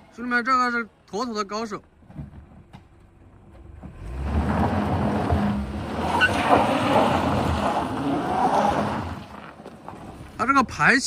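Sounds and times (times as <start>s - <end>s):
tyres on gravel: 0.0s - 11.0s.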